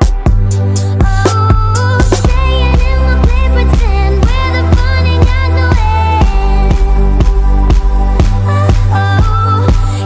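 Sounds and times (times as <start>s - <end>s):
music with heavy bass beat: 0.0s - 10.0s.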